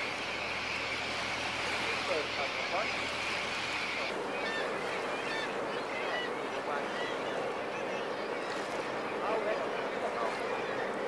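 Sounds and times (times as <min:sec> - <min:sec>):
seabirds calling: 0:00.0 - 0:11.0
wind and sea: 0:00.0 - 0:11.0.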